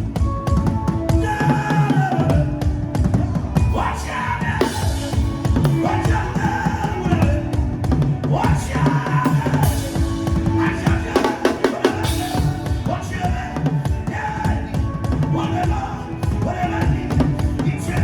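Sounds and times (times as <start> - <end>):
fast dense drumming: 0.0 - 18.0
low bass line: 0.0 - 18.0.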